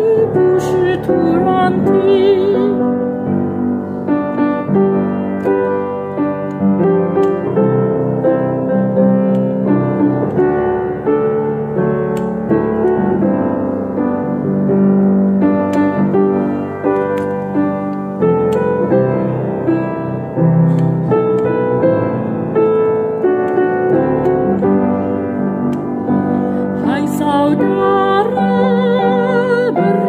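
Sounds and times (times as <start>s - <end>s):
slow hymn on piano: 0.0s - 30.0s.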